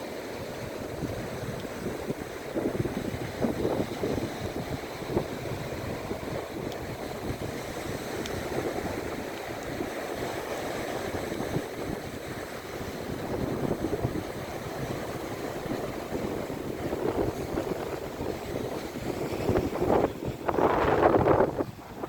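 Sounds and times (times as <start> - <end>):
waves washing onto shore: 0.0 - 22.0
wind buffeting microphone: 0.4 - 22.0.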